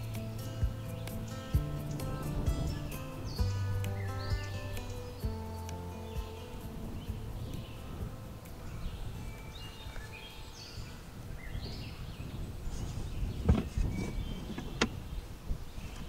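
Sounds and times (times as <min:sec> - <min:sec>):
birds singing: 0:00.0 - 0:16.0
low background noise: 0:00.0 - 0:16.0.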